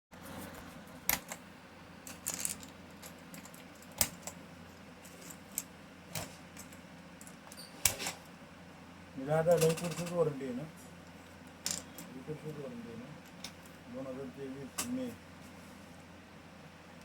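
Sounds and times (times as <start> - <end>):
low steady hum: 0.2 - 17.0.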